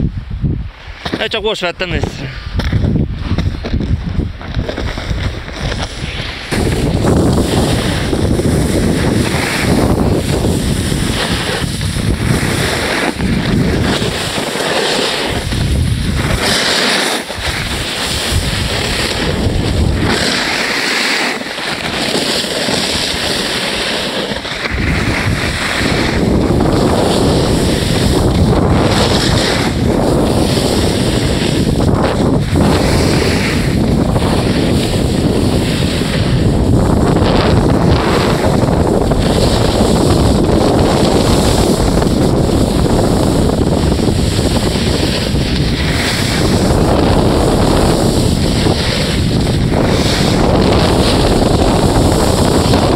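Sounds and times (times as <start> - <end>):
wind buffeting microphone: 0.0 - 20.8, 21.4 - 52.9
skis sliding over packed snow: 0.7 - 52.9.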